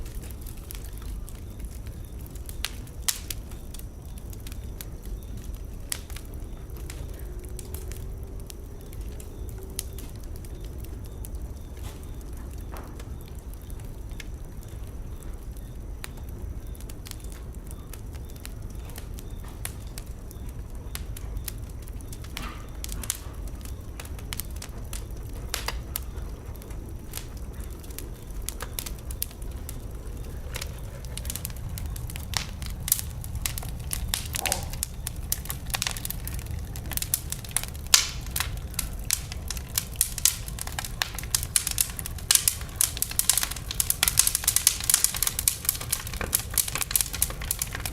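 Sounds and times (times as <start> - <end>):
fire crackling and popping: 0.0 - 47.9
fire rumbling in fireplace: 0.0 - 47.9.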